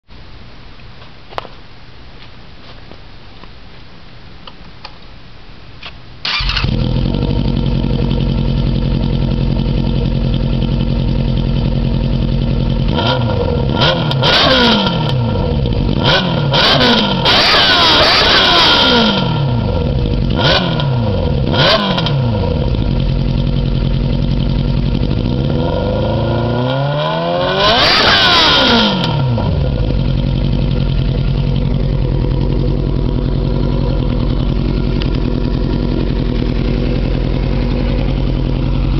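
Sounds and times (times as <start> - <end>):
motorcycle engine idling and revving: 6.3 - 38.9.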